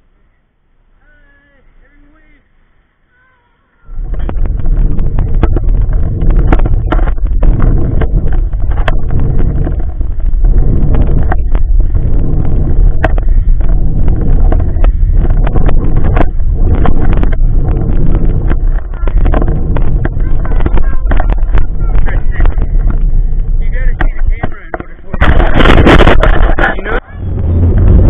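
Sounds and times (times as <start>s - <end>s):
stroller wheels rolling on asphalt: 3.1s - 28.0s
wind buffeting microphone: 3.8s - 28.0s.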